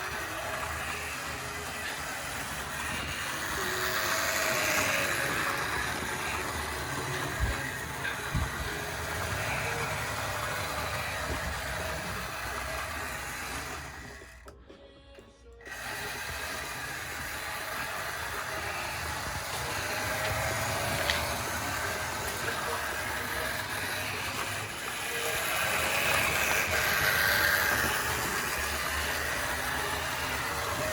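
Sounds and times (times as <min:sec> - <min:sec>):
model train whirring and rattling: 0:00.0 - 0:14.5, 0:15.6 - 0:30.9.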